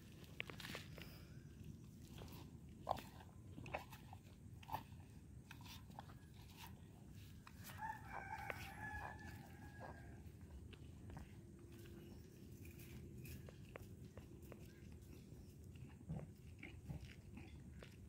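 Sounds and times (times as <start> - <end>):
cow chewing with crunching clicks: 0.0 - 18.0.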